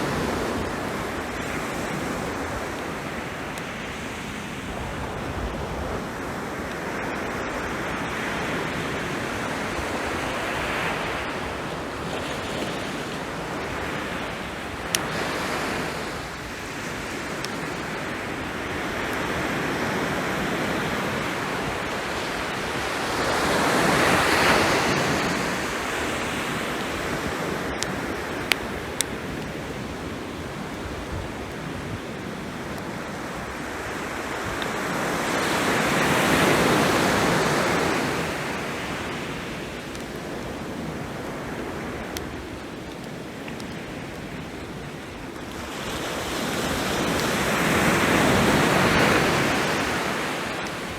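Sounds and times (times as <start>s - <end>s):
sea waves washing ashore: 0.0s - 50.9s.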